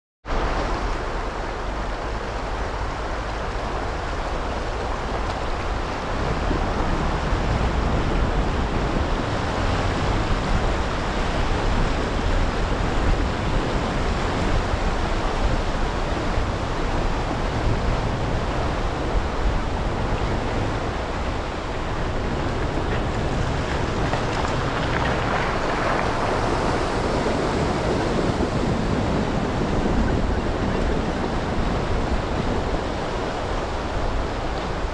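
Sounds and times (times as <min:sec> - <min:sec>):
river water rushing: 0:00.3 - 0:34.9
car tyres rumbling on gravel: 0:01.6 - 0:34.9.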